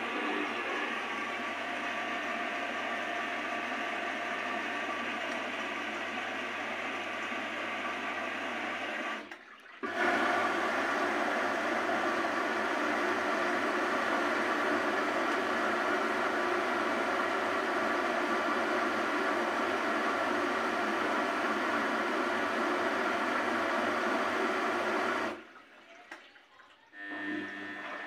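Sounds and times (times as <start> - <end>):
motor hum: 0.0 - 25.4.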